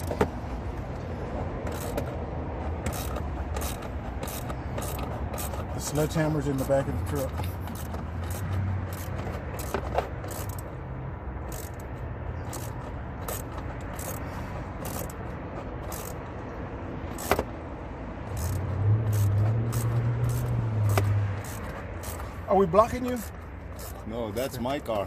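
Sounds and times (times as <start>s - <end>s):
car engine running: 0.0s - 24.3s.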